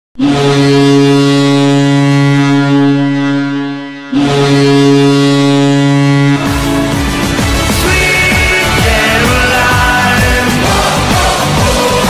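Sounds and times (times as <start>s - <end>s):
deep goal horn blasts: 0.2s - 11.4s.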